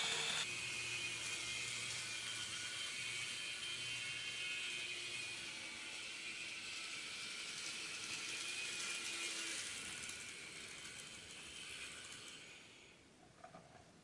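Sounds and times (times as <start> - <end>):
model train whirring: 0.0 - 13.1.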